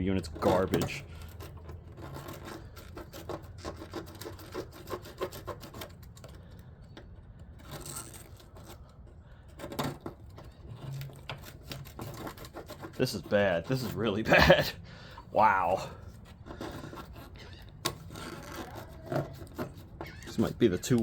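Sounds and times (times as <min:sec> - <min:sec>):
metal tool scraping: 0:00.2 - 0:06.6, 0:07.5 - 0:21.0.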